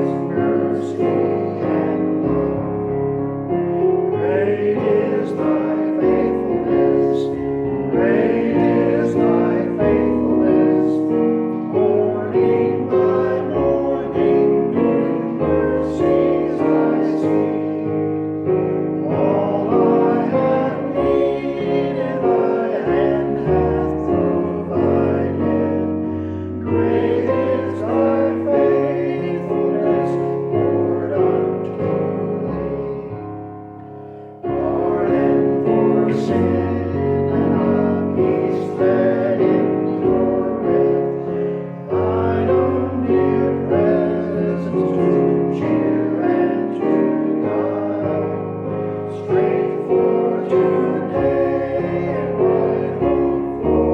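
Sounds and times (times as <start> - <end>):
piano playing slow chords: 0.0 - 53.9.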